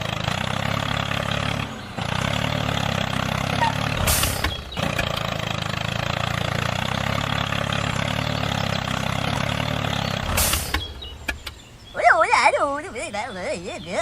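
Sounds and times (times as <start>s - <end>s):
engine idling with low chug: 0.0s - 14.0s.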